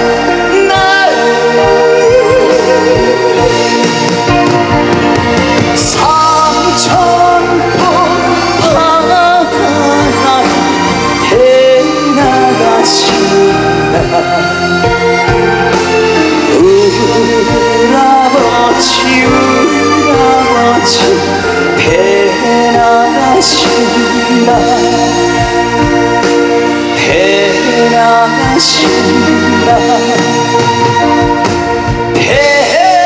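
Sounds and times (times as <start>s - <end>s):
man singing: 0.0s - 5.1s, 5.7s - 33.0s
band playing: 0.0s - 33.0s.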